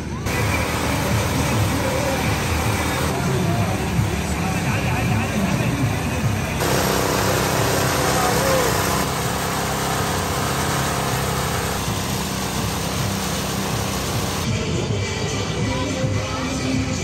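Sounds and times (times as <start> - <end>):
mechanical motor drone: 0.2 - 14.5.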